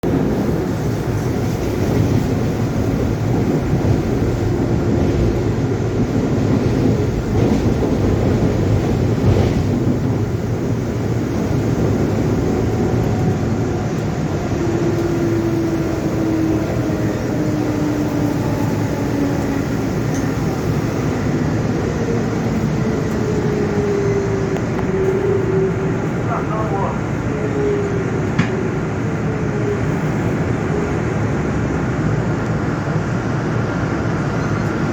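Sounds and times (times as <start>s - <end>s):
locomotive engine rumble: 0.0s - 34.9s.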